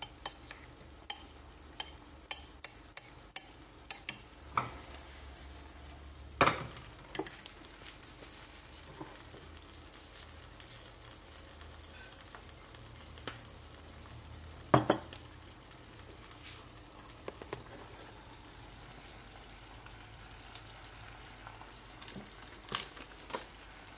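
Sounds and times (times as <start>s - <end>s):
food sizzling in a frying pan: 0.0s - 23.9s.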